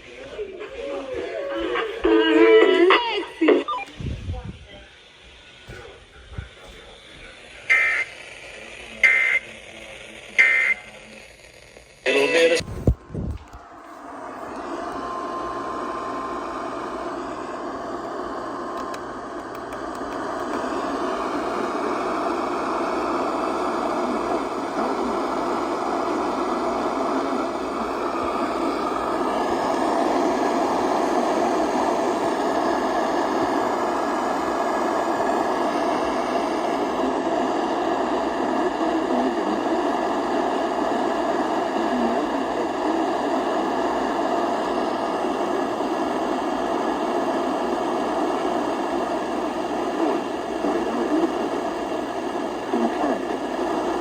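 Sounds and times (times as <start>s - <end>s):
radio static hiss and rumble: 0.0s - 54.0s.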